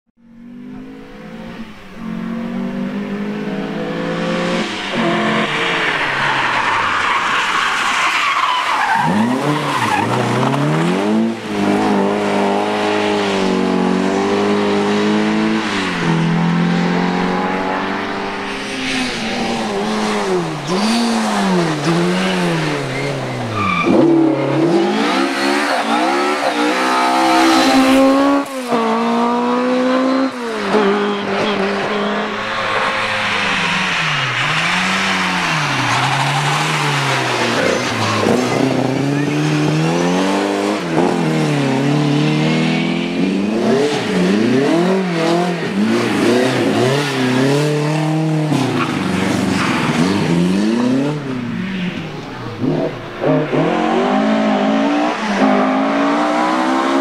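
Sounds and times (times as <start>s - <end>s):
rally car engines revving: 0.2s - 57.0s.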